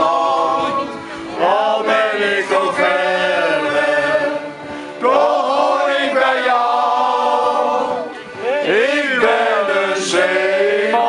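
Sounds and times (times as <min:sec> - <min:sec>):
male choir singing a sea shanty: 0:00.0 - 0:11.0.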